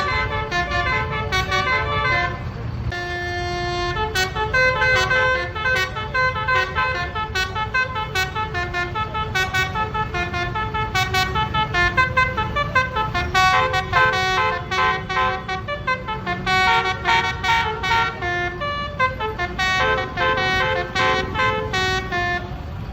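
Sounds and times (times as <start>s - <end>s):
multi-tone musical air horn: 0.0s - 22.6s
engine and traffic rumble: 0.0s - 22.9s.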